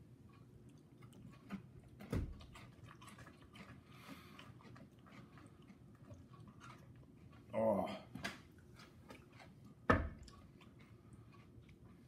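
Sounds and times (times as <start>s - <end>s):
chewing crunchy cereal: 0.0s - 12.0s.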